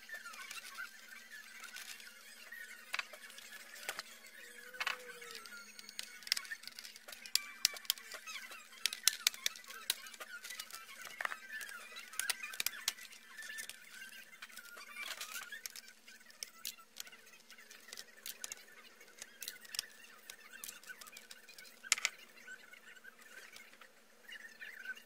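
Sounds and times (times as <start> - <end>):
plastic creaks: 0.1 - 23.9.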